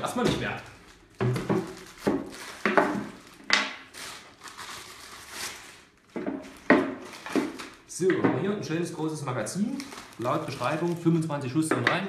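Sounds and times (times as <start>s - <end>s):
plastic packaging crinkling: 0.0s - 8.0s, 8.9s - 11.8s.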